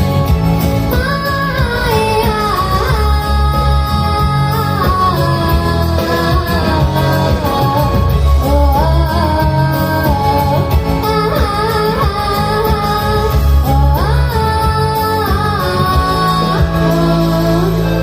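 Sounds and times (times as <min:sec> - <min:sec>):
instrumental accompaniment: 0:00.0 - 0:18.0
girl singing: 0:00.9 - 0:18.0.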